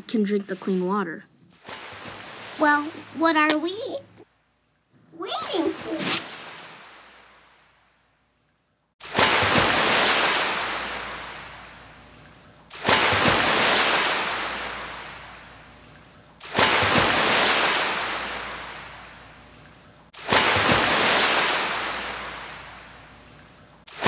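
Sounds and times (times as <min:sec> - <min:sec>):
ocean waves breaking: 0:00.0 - 0:04.2, 0:05.2 - 0:07.8, 0:09.0 - 0:12.1, 0:12.7 - 0:15.8, 0:16.4 - 0:19.4, 0:20.2 - 0:24.0.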